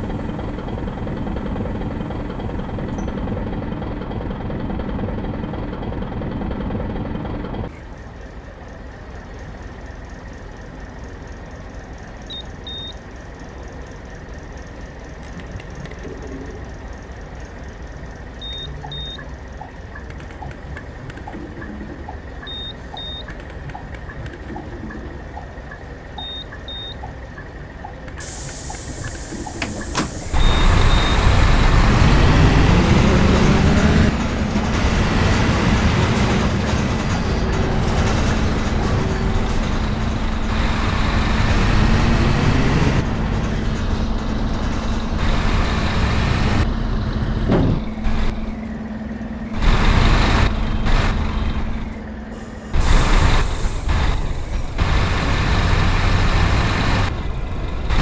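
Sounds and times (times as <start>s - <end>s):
bus engine: 0.0s - 58.0s.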